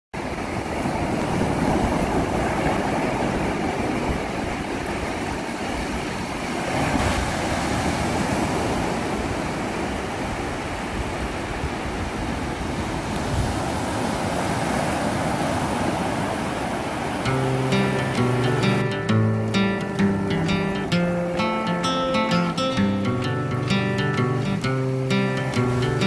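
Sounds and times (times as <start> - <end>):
surf breaking over rocks: 0.2 - 26.0.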